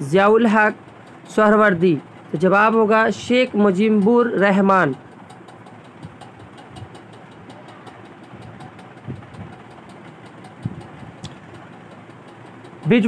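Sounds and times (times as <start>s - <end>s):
engine-like hum: 0.0s - 13.0s
fast even ticking: 0.0s - 13.0s.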